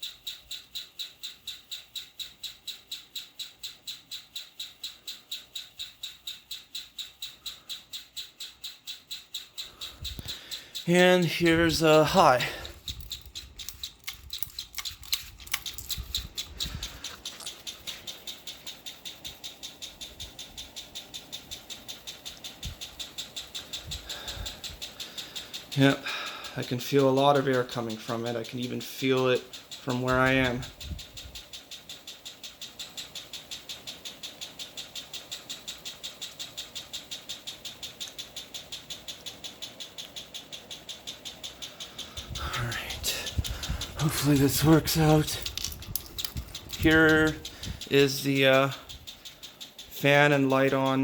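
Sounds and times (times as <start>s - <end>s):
ceiling fan running: 0.0s - 51.0s
rhythmic squeaking tick: 0.0s - 51.0s.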